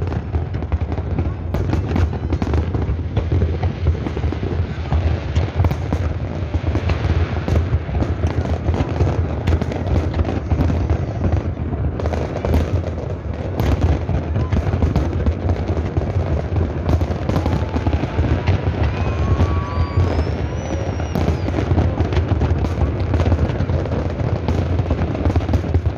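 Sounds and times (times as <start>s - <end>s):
fireworks bursting and crackling: 0.0s - 25.9s
fireworks whistling: 0.0s - 25.9s.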